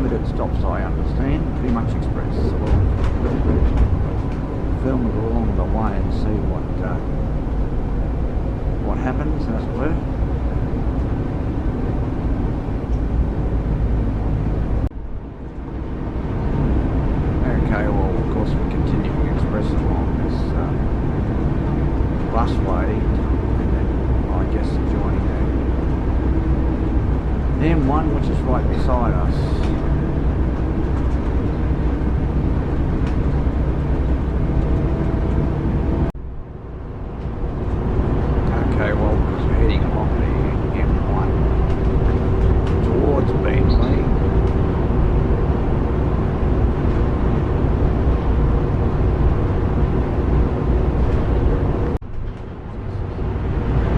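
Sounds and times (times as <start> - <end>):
coach engine and road rumble: 0.0 - 53.9.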